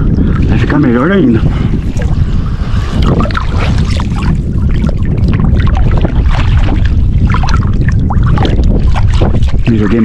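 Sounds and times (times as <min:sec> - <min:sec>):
river water lapping and splashing: 0:00.0 - 0:10.0
wind rumble on microphone: 0:00.0 - 0:10.0.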